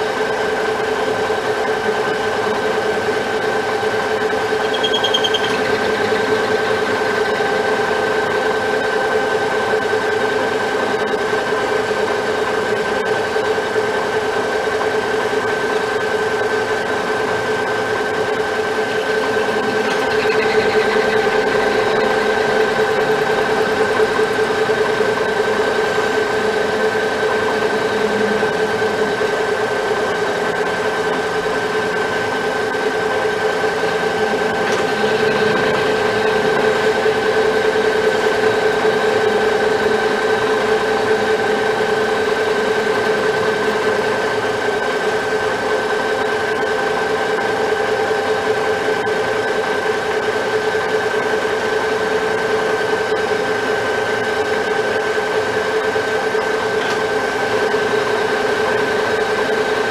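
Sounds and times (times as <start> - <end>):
metal lathe whining: 0.0 - 59.9.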